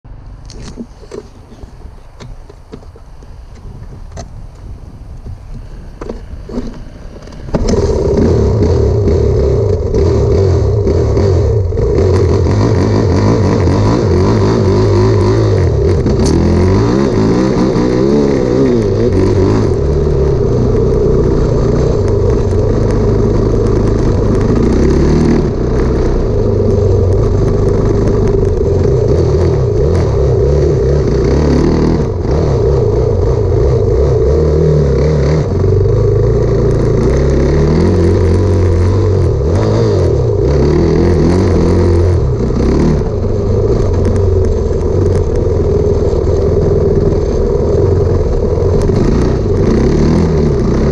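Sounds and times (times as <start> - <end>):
dirt bike engine revving: 5.6 - 50.9.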